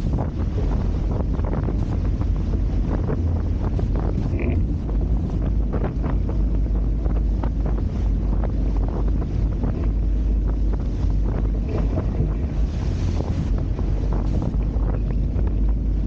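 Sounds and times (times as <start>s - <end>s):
water splashing against hulls: 0.0s - 16.0s
wind buffeting microphone: 0.0s - 16.0s.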